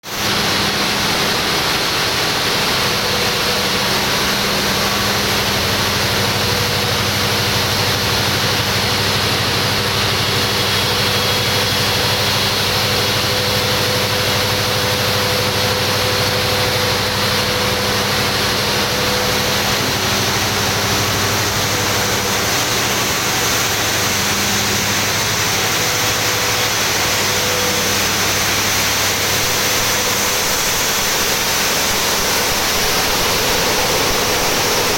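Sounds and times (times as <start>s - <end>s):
steam turbine rushing: 0.0s - 34.9s.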